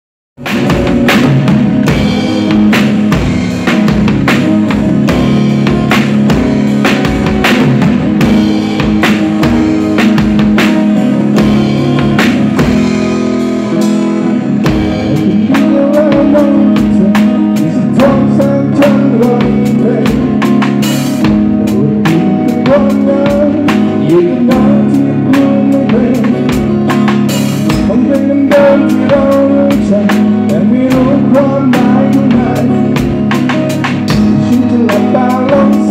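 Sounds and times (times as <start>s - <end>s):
drum kit beat: 0.4s - 35.9s
sustained bass notes: 0.4s - 35.9s.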